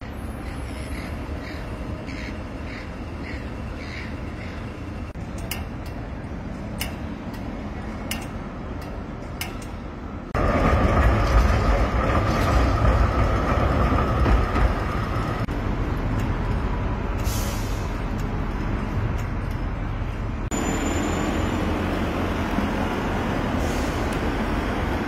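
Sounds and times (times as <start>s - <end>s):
street rumble: 0.0s - 25.0s
vehicle high whine: 0.0s - 25.0s.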